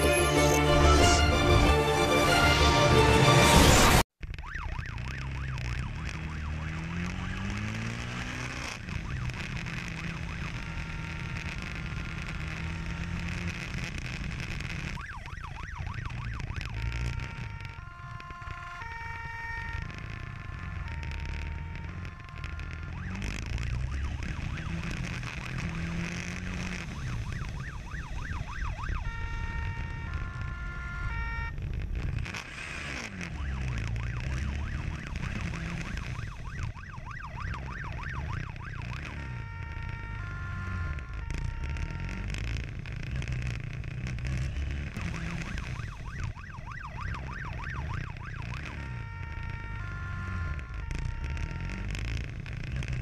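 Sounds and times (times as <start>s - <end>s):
motorcycle engine revving: 0.0s - 53.0s
two-tone siren: 0.0s - 53.0s.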